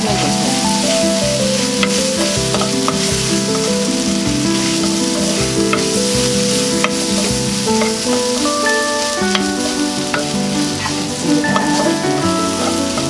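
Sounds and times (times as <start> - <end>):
background music: 0.0 - 13.0
food sizzling in a frying pan: 0.0 - 13.0.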